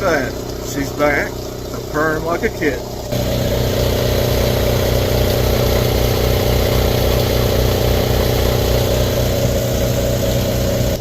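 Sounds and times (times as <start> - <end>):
air compressor pulsing: 0.0 - 11.0.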